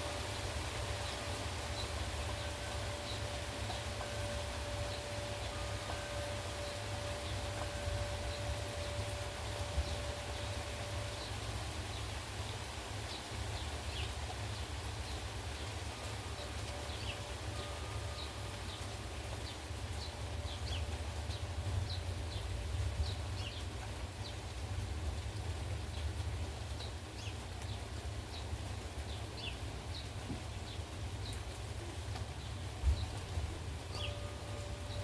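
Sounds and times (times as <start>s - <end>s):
heavy rain hiss: 0.0s - 35.0s.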